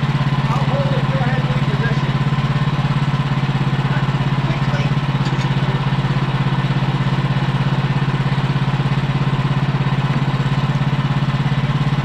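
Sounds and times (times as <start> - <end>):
gasoline engine idling: 0.0 - 12.0.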